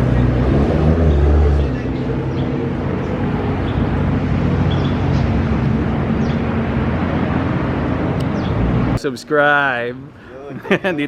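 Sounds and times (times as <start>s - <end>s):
car engine running steadily: 0.0s - 9.0s.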